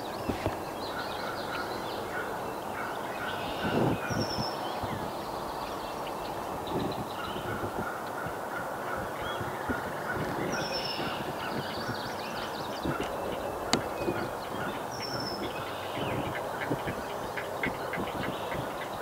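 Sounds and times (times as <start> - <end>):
steady background hiss: 0.0 - 19.0
heron nestlings calling: 0.2 - 19.0.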